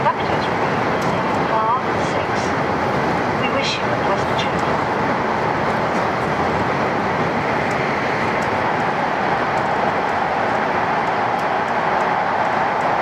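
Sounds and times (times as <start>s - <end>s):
train running noise inside car: 0.0s - 13.0s.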